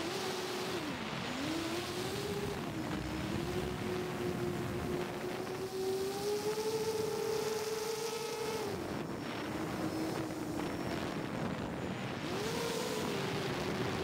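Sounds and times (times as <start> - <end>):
drone motors whining: 0.0 - 14.0
wind rush: 0.6 - 14.0.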